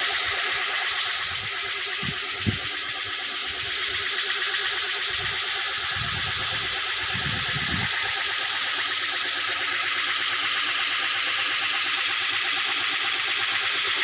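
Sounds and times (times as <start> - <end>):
band saw whirring: 0.0 - 14.0.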